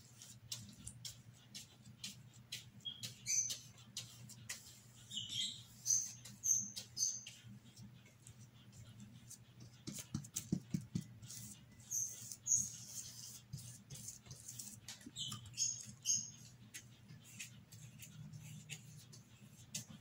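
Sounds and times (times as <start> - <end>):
paintbrush scratching on cardboard: 0.0 - 20.0.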